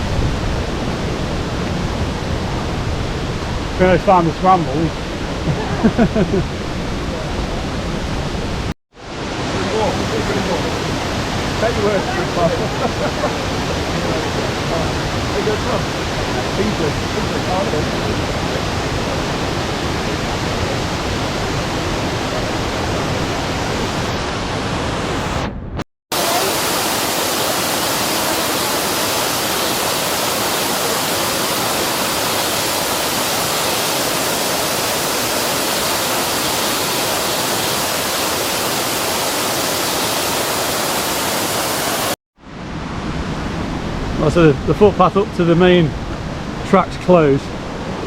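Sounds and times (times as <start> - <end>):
waterfall rushing: 0.0 - 25.5, 26.1 - 48.0.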